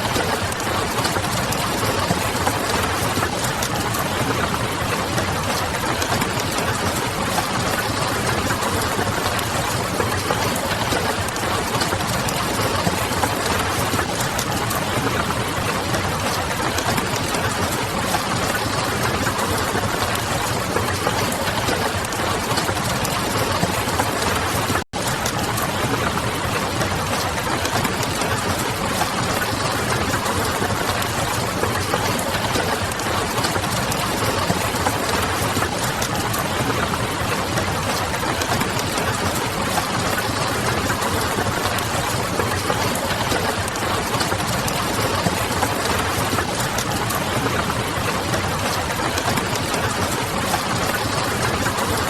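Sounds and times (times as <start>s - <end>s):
rain pattering on a window: 0.0s - 52.0s.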